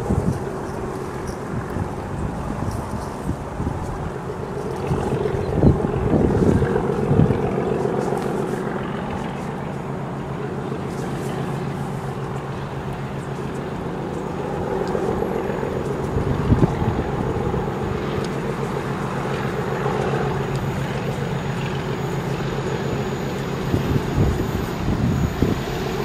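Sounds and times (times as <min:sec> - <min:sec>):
diesel locomotive engine throbbing: 0:00.0 - 0:26.0
wind gusts on microphone: 0:00.0 - 0:26.0.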